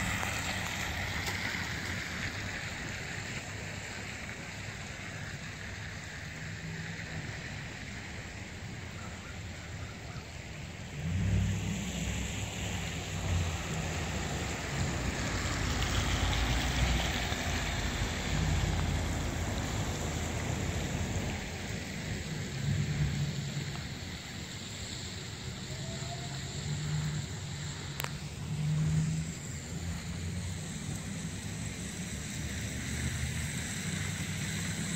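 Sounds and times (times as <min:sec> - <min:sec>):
rushing hiss: 0:00.0 - 0:34.9.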